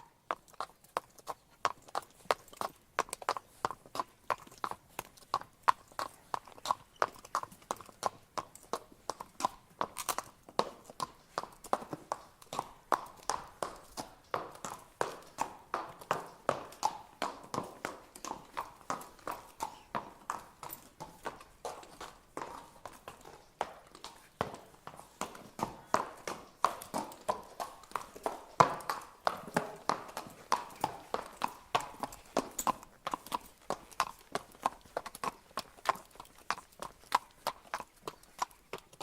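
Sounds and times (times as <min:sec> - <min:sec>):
horse hooves clip-clopping: 0:00.0 - 0:39.0.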